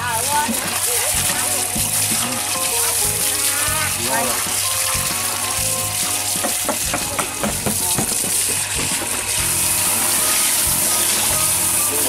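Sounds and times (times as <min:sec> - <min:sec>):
background music: 0:00.0 - 0:12.0
hose water splashing: 0:00.0 - 0:12.0.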